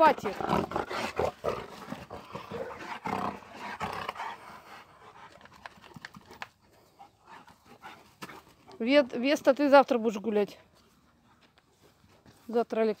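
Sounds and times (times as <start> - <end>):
dogs growling and scuffling: 0.0 - 12.6.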